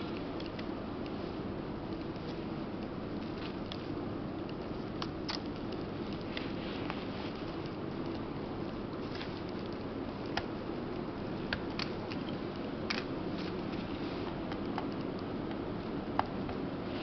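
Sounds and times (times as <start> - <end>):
steady hiss and hum: 0.0 - 17.0.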